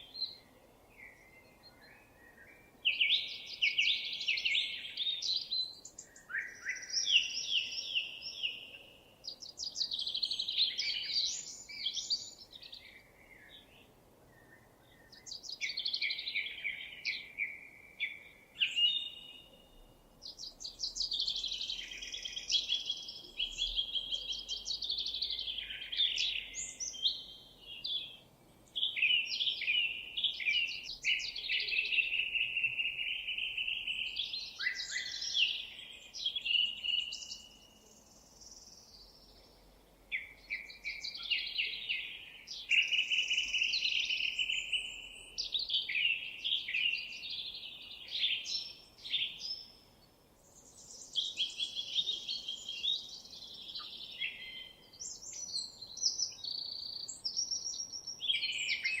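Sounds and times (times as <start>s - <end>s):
songbird singing trills: 0.0s - 59.0s.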